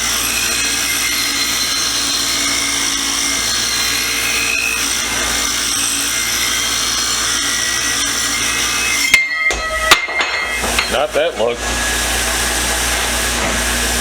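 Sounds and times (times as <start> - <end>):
power tool running on metal: 0.0 - 14.0.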